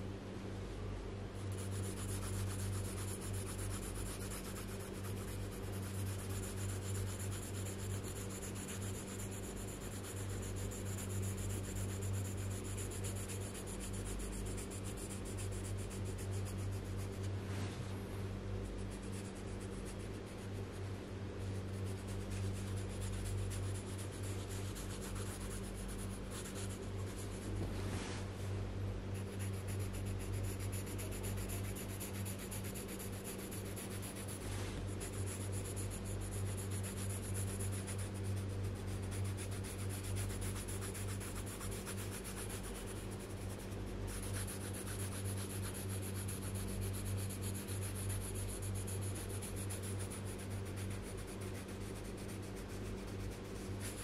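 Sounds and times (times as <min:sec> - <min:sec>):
steady low hum: 0:00.0 - 0:54.0
pencil scratching on paper: 0:01.4 - 0:17.3, 0:18.6 - 0:20.8, 0:21.4 - 0:27.7, 0:29.1 - 0:54.0.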